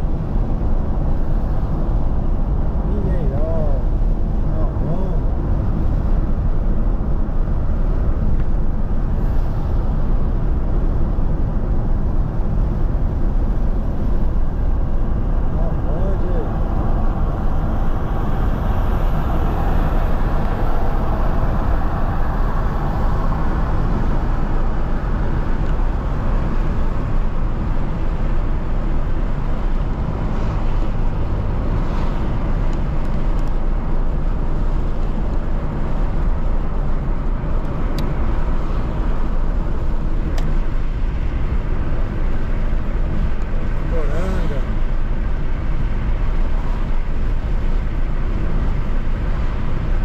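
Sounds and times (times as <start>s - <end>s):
engine hum: 0.0s - 50.0s
road and tyre noise: 0.0s - 50.0s.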